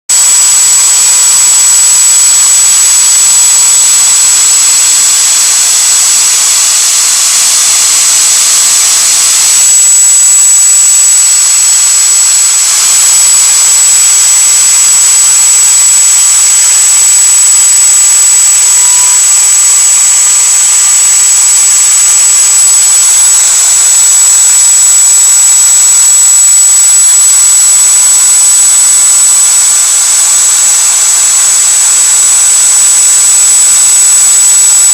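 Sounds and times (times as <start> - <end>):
router milling wood whine: 0.1 - 34.9.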